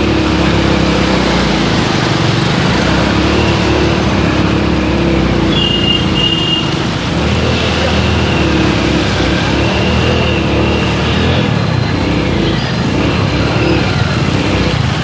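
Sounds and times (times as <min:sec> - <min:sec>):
vehicle engines in street traffic: 0:00.0 - 0:15.0.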